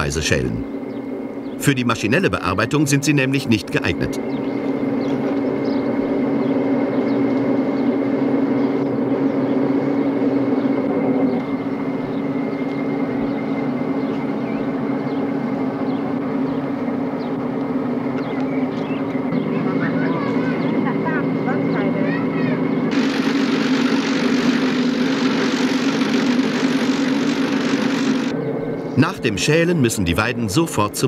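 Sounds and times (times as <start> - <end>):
mechanical drone with high whine: 0.0 - 31.0.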